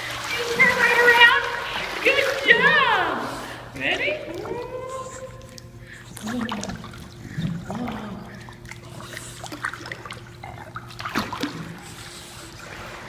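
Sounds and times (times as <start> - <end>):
small water splashes: 0.0 - 13.0
steady low hum: 0.0 - 13.0
water trickling and lapping: 0.0 - 13.0.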